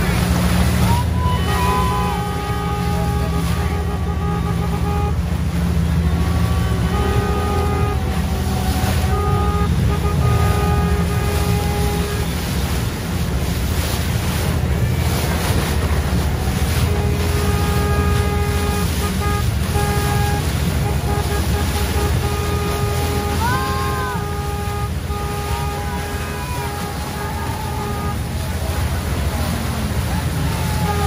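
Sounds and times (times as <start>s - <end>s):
horn blasts: 0.0s - 31.0s
motorboat rumble: 0.0s - 31.0s
water rushing and splashing: 0.0s - 31.0s.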